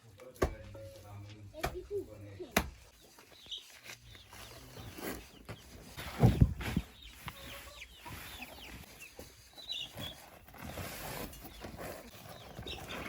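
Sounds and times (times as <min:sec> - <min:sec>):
chickens clucking: 0:01.6 - 0:13.0.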